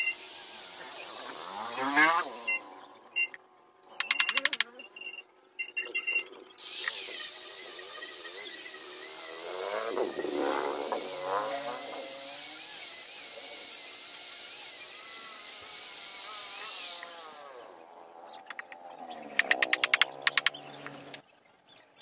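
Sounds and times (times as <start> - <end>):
angle grinder cutting wood: 0.0 - 3.2, 6.6 - 21.2.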